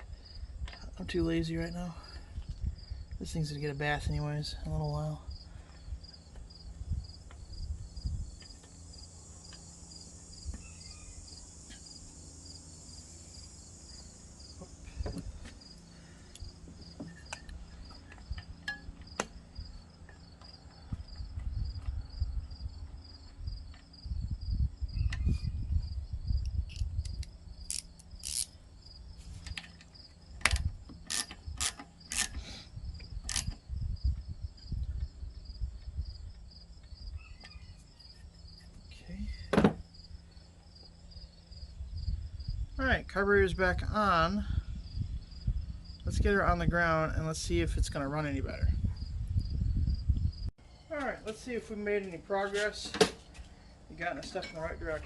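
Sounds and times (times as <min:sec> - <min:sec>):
crickets chirping: 0:00.0 - 0:46.7, 0:48.5 - 0:55.0.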